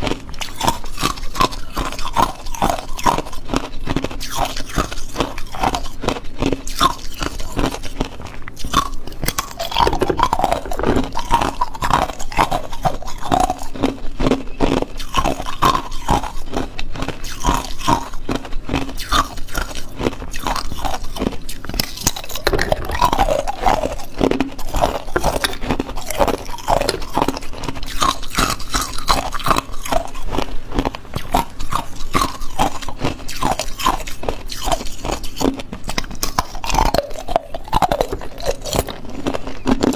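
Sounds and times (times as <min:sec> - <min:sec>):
teeth crunching ice cubes: 0:00.0 - 0:39.9.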